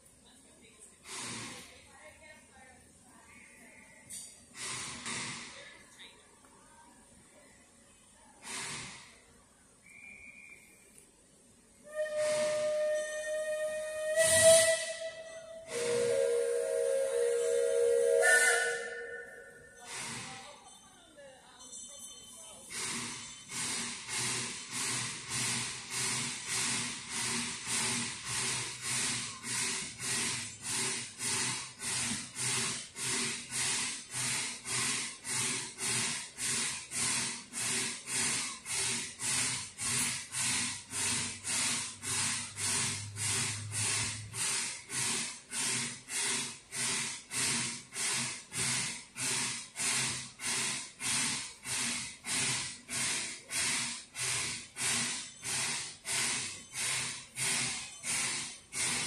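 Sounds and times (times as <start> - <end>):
steam locomotive chuffing: 0.8 - 1.9, 4.1 - 5.9, 8.4 - 10.8, 11.8 - 59.0.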